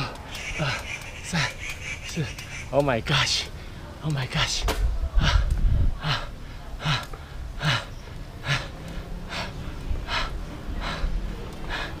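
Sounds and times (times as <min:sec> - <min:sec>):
cyclist breathing hard: 0:00.0 - 0:02.5, 0:03.4 - 0:04.0, 0:05.2 - 0:12.0
wind and road rumble: 0:00.0 - 0:12.0.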